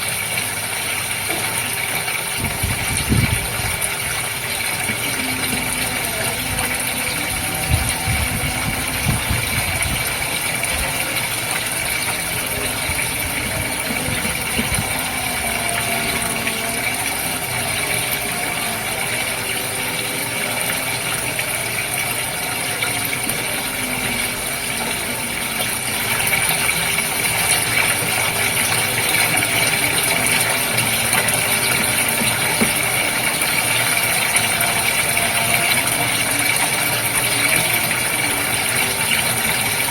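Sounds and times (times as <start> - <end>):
aquarium water: 0.0 - 39.9
pump hum: 0.0 - 39.9.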